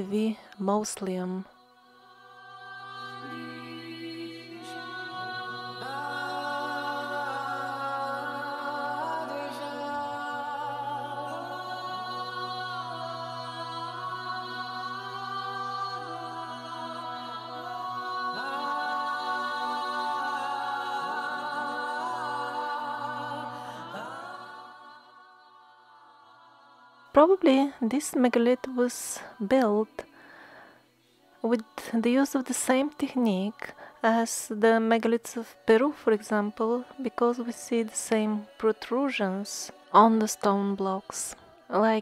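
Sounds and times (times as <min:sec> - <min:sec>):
choir-like vocal chords: 0:00.0 - 0:42.0.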